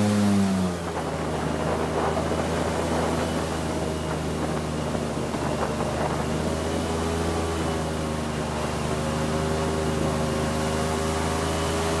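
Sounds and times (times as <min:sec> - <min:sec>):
airboat engine and propeller humming: 0:00.0 - 0:12.0.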